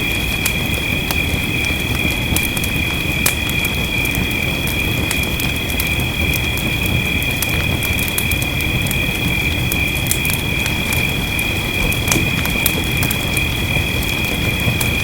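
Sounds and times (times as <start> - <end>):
rain hissing: 0.0 - 15.0
wood fire crackling: 0.0 - 15.0.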